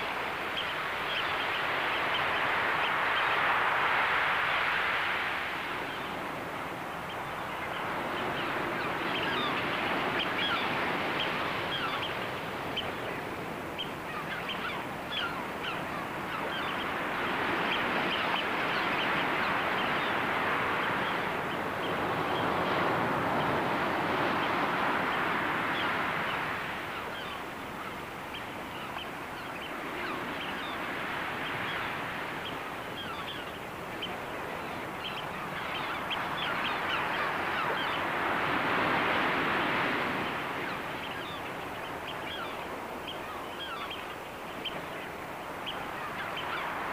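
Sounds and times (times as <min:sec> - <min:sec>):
surf washing ashore: 0:00.0 - 0:46.9
flock of birds chattering: 0:06.9 - 0:46.9.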